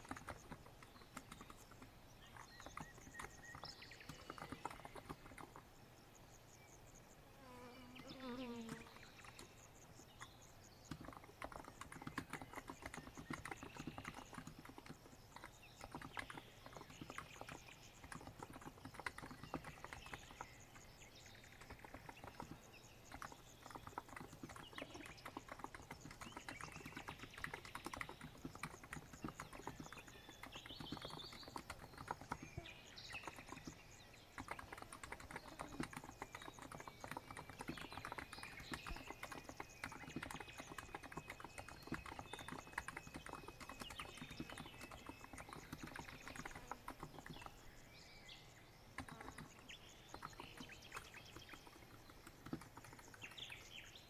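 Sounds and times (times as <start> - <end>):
keyboard typing clicks: 0.0 - 5.6, 10.9 - 20.5, 21.6 - 47.5, 49.0 - 53.6
faint bird chirps: 0.0 - 54.0.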